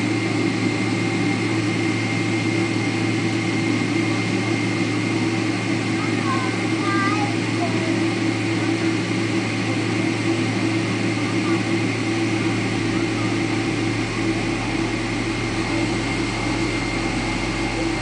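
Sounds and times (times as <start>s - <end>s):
airplane cabin mechanical hum: 0.0s - 18.0s
deep engine drone: 0.0s - 18.0s.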